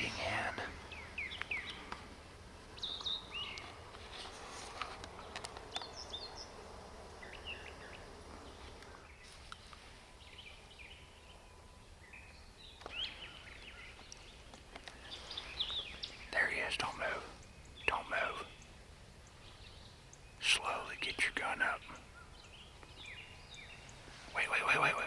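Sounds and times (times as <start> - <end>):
low steady background hiss: 0.0 - 25.0
songbirds chirping: 0.0 - 25.0.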